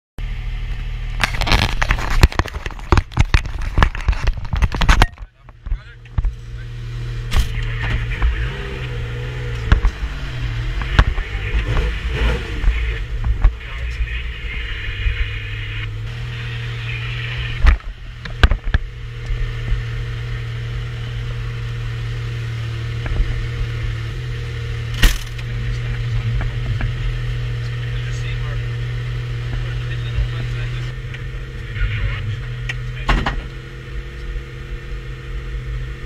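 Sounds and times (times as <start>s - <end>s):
car engine idling: 0.2s - 36.0s.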